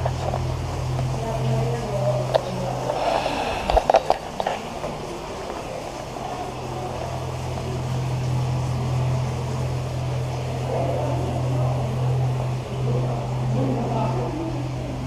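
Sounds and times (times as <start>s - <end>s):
faint murmur: 0.0s - 15.0s
low mechanical hum: 0.0s - 15.0s.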